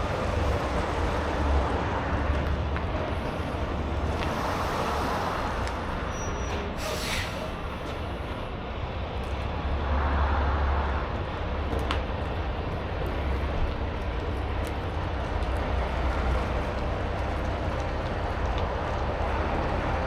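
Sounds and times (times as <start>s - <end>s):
road noise hiss: 0.0s - 20.0s
truck engine rumble: 0.0s - 20.0s.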